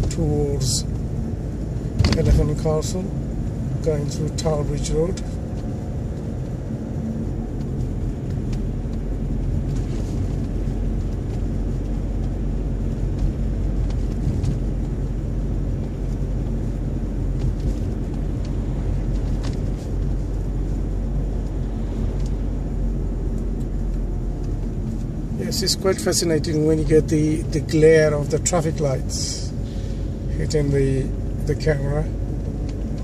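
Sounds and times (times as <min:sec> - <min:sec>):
car engine rumble: 0:00.0 - 0:33.0
tyres on road: 0:00.0 - 0:33.0.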